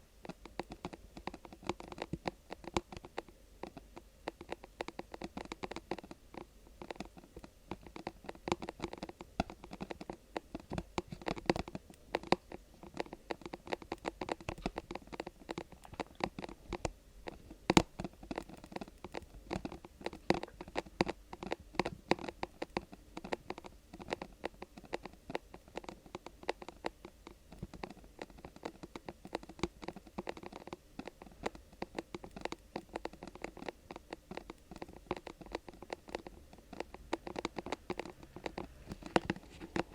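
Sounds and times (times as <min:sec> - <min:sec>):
fingers scratching and tapping: 0:00.0 - 0:39.9.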